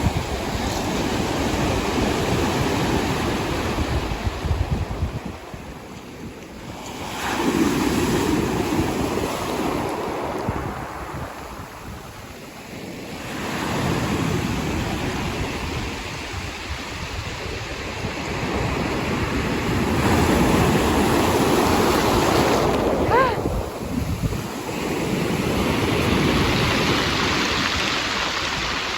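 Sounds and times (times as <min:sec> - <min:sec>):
sea waves breaking on shore: 0:00.0 - 0:28.9
wind buffeting microphone: 0:00.0 - 0:28.9.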